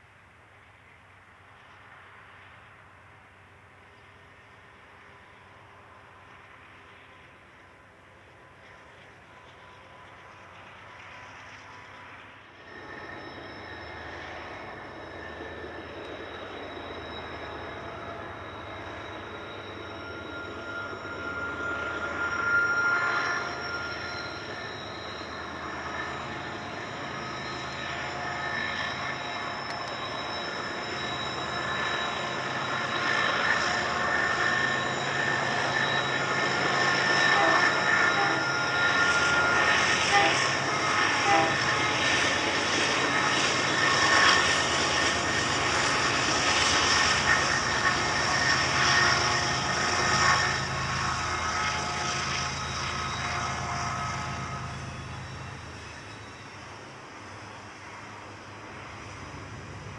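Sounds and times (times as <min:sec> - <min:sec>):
locomotive engine drone: 0:00.1 - 0:59.9
high whining tones: 0:07.7 - 0:59.9.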